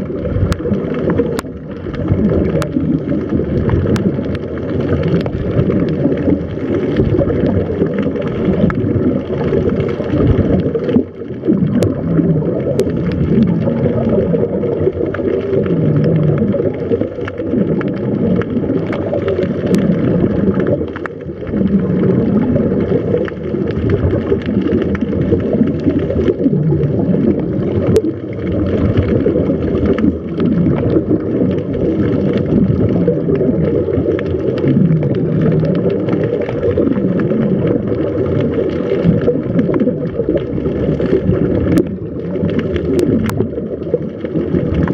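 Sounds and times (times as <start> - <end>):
muffled underwater noise: 0.0 - 44.9
regulator bubbles gurgling: 0.0 - 44.9.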